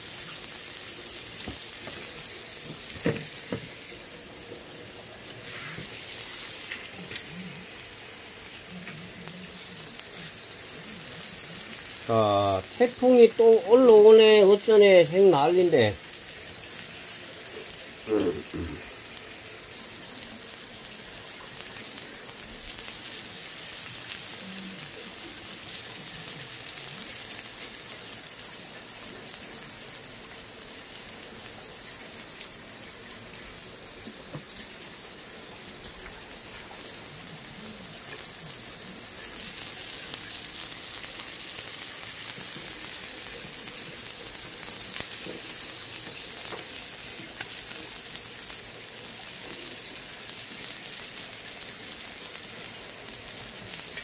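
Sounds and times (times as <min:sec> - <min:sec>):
meat sizzling on a griddle: 0:00.0 - 0:54.0.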